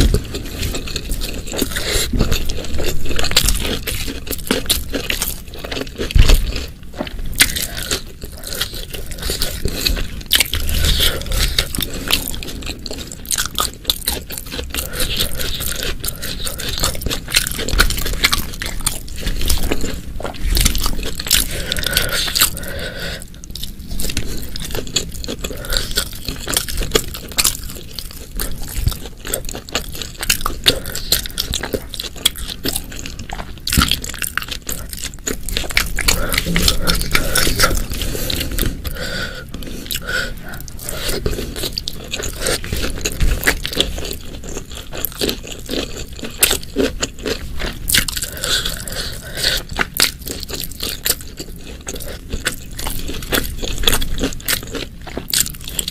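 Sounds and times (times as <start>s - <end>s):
chewing and biting food: 0.0s - 55.9s.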